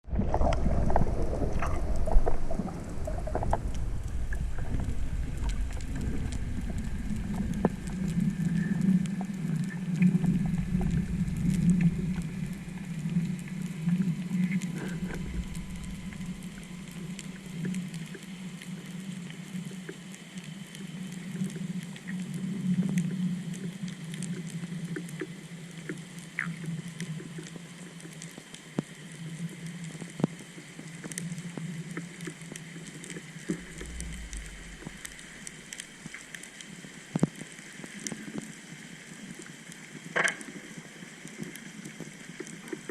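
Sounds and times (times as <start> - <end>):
boat motor hum underwater: 0.0 - 42.9
rumbling water noise: 0.0 - 42.9
underwater crackle of clicks: 0.1 - 42.9.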